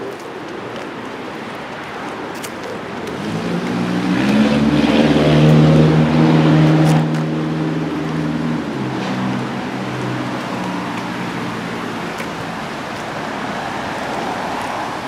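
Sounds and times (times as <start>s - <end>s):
handling noise from walking: 0.0s - 15.0s
vehicle engine hum: 0.0s - 15.0s.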